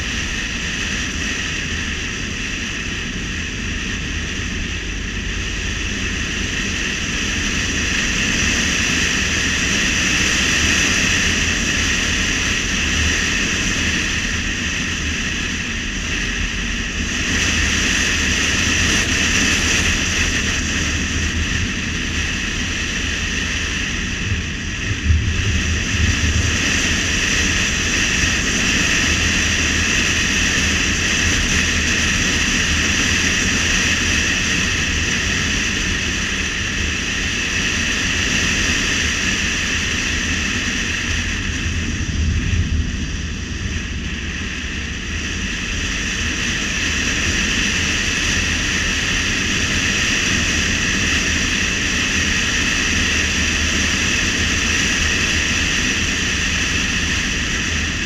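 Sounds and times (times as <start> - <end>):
car road noise at speed: 0.0 - 58.0.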